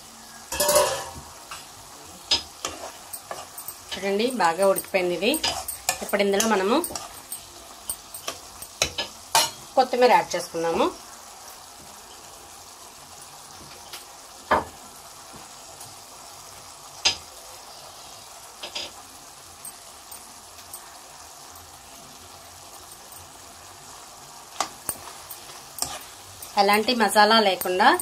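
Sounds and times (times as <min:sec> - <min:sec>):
curry sizzling in a pan: 0:00.0 - 0:28.0.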